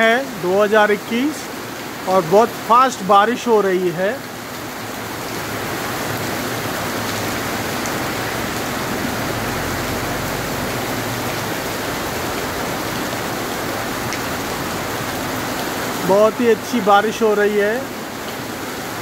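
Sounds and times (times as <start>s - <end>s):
heavy rain on the street: 0.0s - 19.0s.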